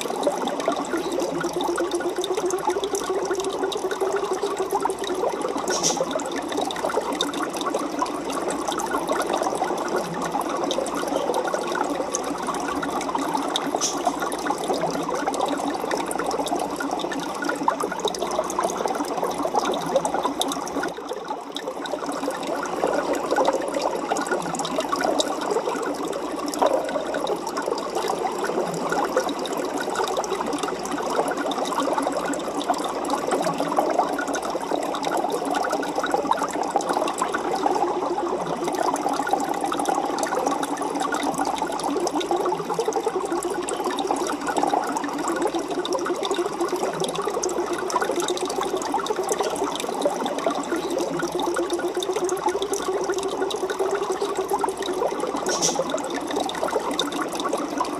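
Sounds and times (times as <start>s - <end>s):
aquarium water trickling and bubbling: 0.0s - 57.9s.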